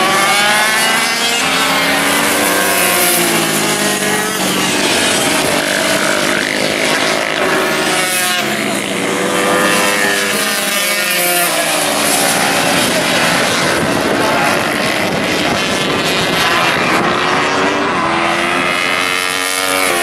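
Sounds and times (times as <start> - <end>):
racing motorcycles at high revs: 0.0 - 20.0.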